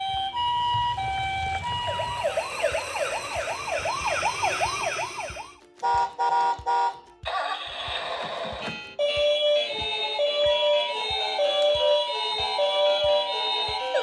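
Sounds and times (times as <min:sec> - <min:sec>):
toy ambulance siren: 0:00.0 - 0:05.6, 0:07.9 - 0:14.0.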